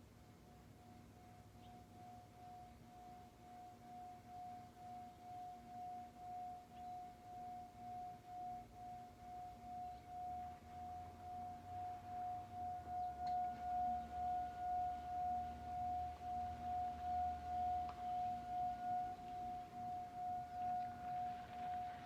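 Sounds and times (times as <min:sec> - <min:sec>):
singing bowl tone: 0:00.0 - 0:22.0.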